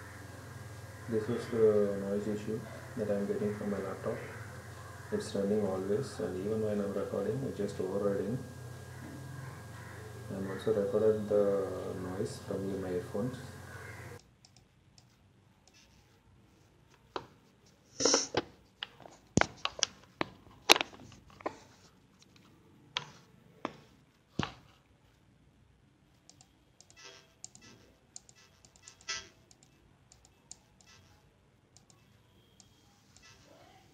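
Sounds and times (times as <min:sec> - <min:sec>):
faint steady hiss: 0:00.0 - 0:20.3, 0:21.0 - 0:33.9.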